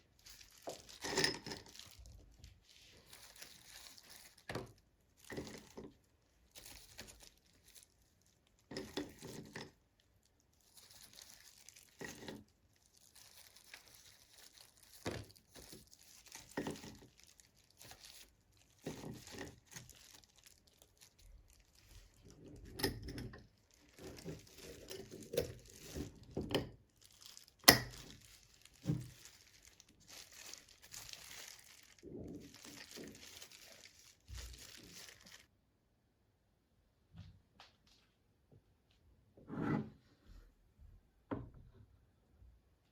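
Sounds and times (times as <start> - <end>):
rustling and crinkling: 0.0 - 35.6.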